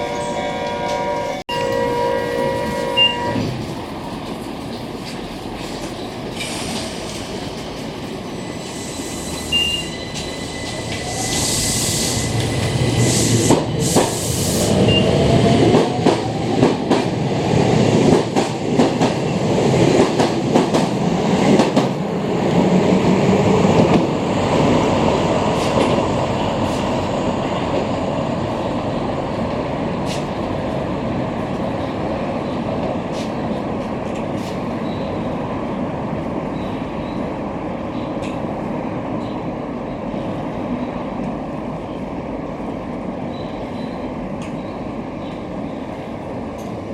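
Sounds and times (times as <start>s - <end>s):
train rumble: 0.0s - 46.9s.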